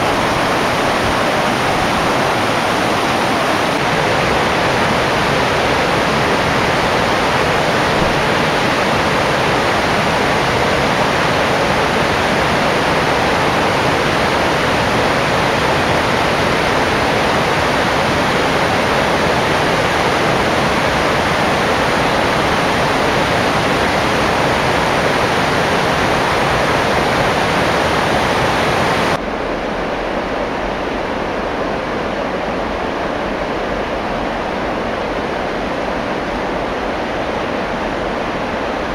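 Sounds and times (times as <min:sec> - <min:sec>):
stream rushing over boulders: 0:00.0 - 0:38.9.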